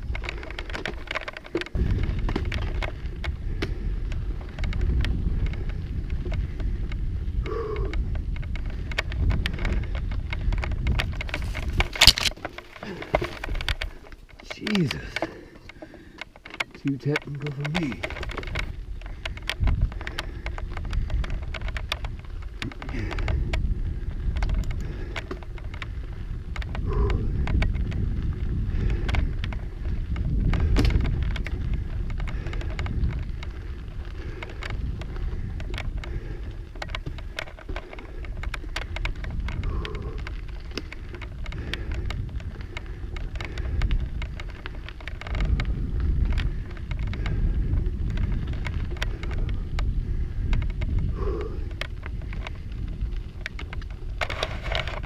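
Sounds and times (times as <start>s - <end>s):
bike rattling: 0.0s - 55.0s
bike tyres crunching over rocks: 0.0s - 55.0s
wind rumble on microphone: 0.0s - 55.0s.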